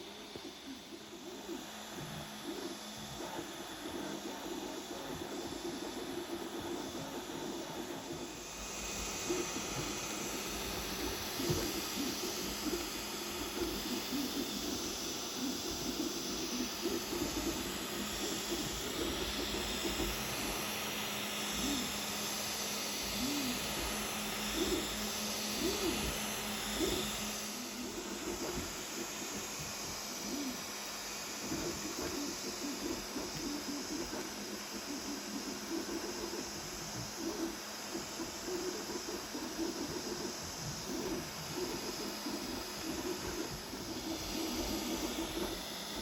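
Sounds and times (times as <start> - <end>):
fan hiss: 0.0 - 46.0
stepper motors whirring: 0.0 - 46.0.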